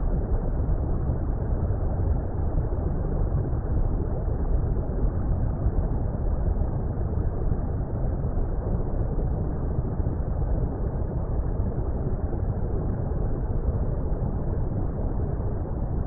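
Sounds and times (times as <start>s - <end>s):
low rumbling water: 0.0s - 16.0s.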